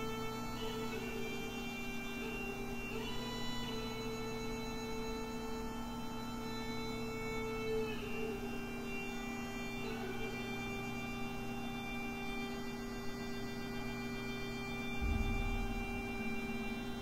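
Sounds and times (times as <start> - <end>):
slow music of held tones: 0.0 - 17.0.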